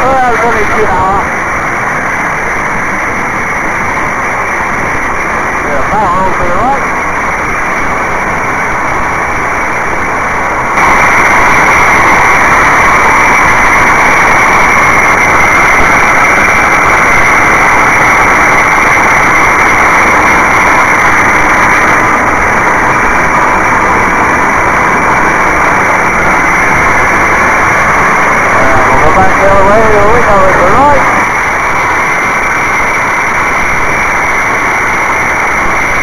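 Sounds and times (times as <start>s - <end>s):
aircraft engine running: 0.0s - 36.0s
rush of airflow: 0.0s - 36.0s.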